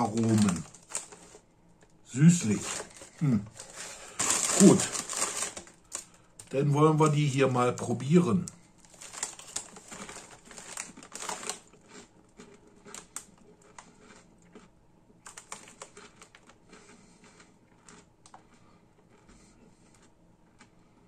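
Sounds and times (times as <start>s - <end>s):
potato chips crunching: 0.0s - 1.5s, 2.2s - 21.0s.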